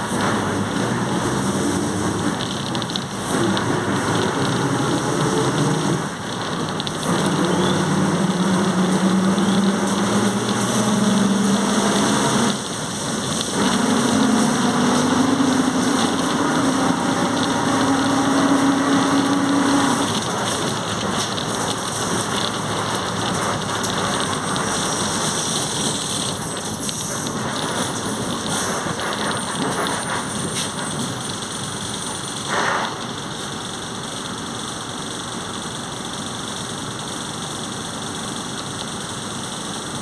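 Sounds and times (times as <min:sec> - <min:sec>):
bus transmission whining: 0:00.0 - 0:36.2
road and running noise: 0:00.0 - 0:40.0.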